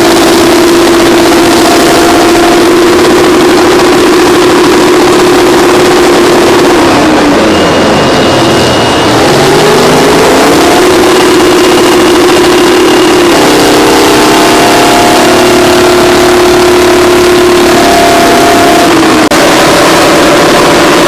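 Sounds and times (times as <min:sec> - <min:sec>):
heavy diesel engine working: 0:00.0 - 0:21.0
second engine tone: 0:00.0 - 0:21.0.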